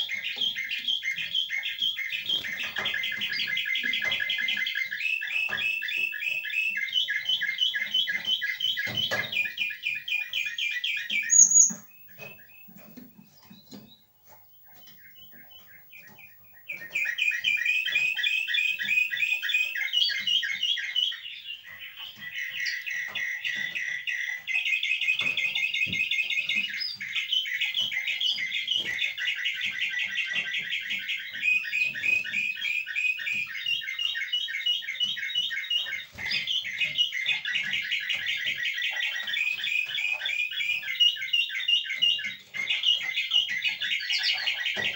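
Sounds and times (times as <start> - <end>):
siskin singing twittering trills: 0.0 - 44.9.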